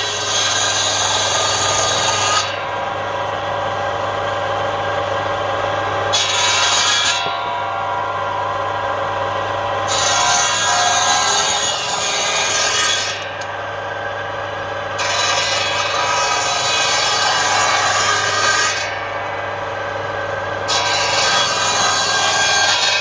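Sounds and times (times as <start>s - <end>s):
circular saw cutting wood: 0.0s - 23.0s
saw motor low hum: 0.0s - 23.0s.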